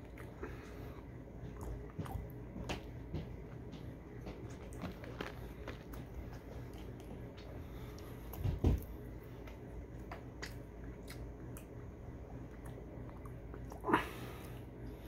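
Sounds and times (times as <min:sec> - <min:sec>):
chewing fries: 0:00.0 - 0:15.0.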